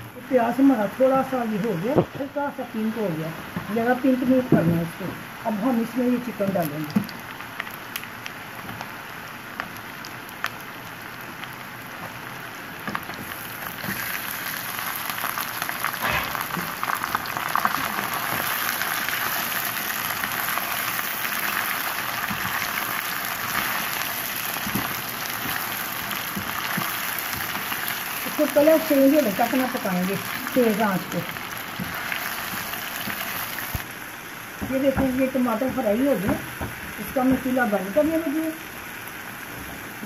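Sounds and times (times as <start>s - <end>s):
chicken sizzling in oil: 5.4s - 40.0s.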